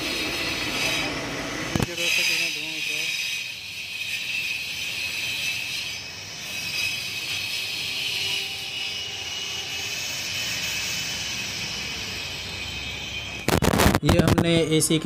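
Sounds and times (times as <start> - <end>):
angle grinder cutting wall: 0.0 - 13.6.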